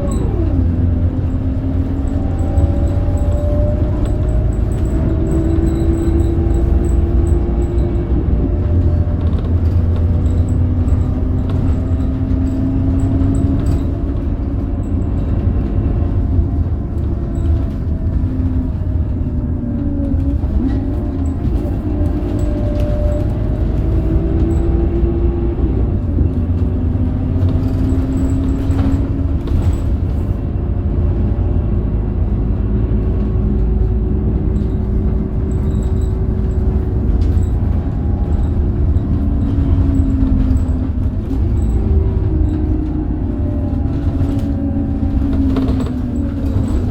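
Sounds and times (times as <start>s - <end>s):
gearbox whining: 0.0s - 30.4s, 33.4s - 46.9s
bus diesel engine rumbling: 0.0s - 46.9s.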